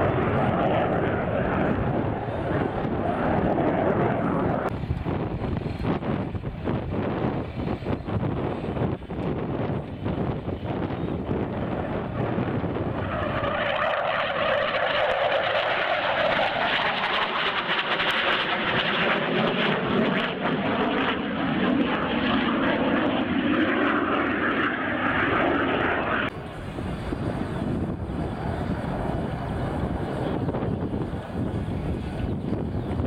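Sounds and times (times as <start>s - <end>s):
aircraft engine flying past: 0.0s - 33.0s
wind noise on microphone: 0.0s - 33.0s.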